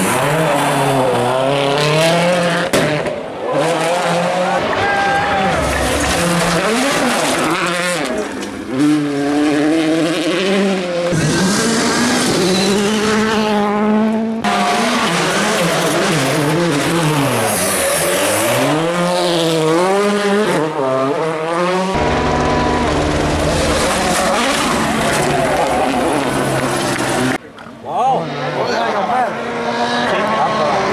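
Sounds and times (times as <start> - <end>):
rally car engines revving: 0.0 - 30.9.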